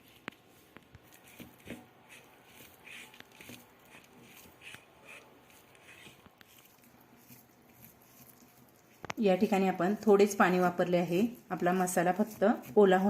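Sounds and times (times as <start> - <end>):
soft scraping in bowl: 0.0 - 13.0.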